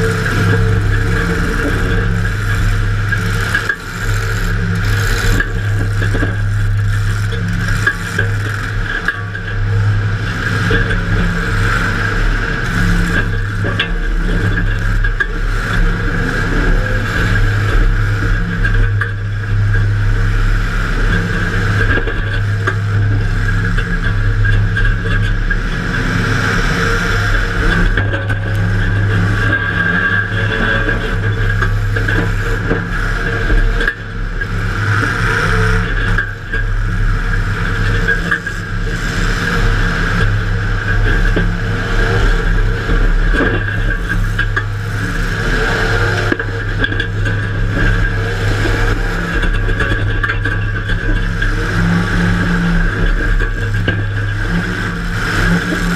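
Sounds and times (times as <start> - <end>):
car engine running hard: 0.0 - 55.9.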